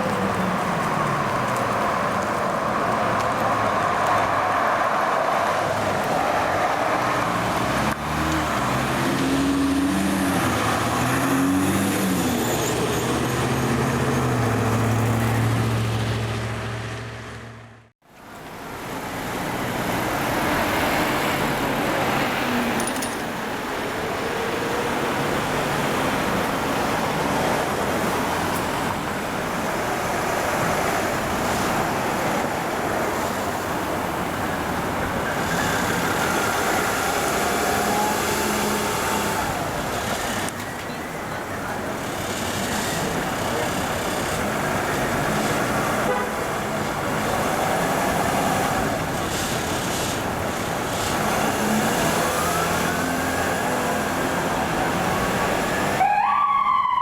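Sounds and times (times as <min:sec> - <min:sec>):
fire truck engine pulling away: 0:00.0 - 0:57.0
road and traffic noise: 0:00.0 - 0:57.0.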